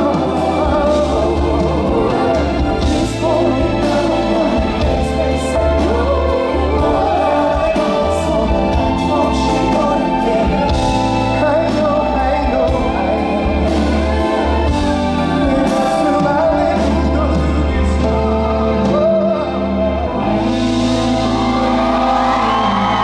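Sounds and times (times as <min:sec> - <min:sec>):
live band playing: 0:00.0 - 0:23.0
man singing: 0:00.0 - 0:23.0.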